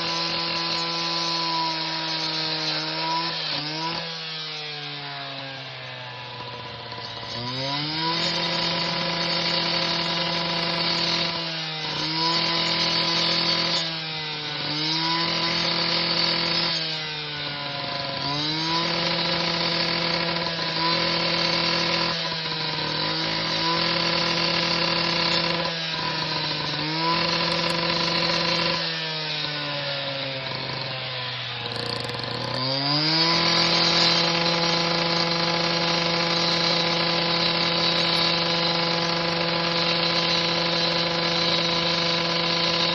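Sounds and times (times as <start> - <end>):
power grinder whining: 0.0 - 42.9.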